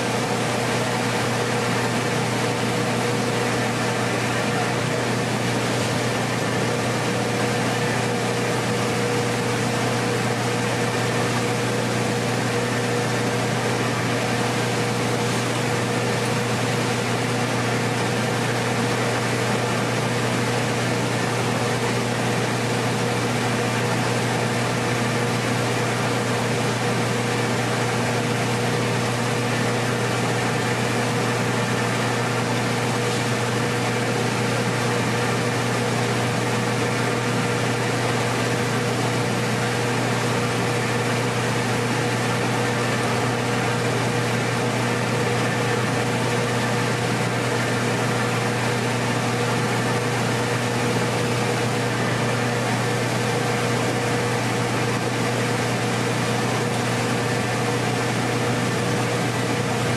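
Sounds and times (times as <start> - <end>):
rice mill machinery humming: 0.0 - 59.9.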